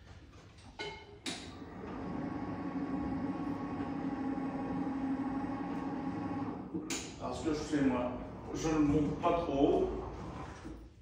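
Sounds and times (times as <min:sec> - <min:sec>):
hoist electric motor humming: 0:01.3 - 0:10.7.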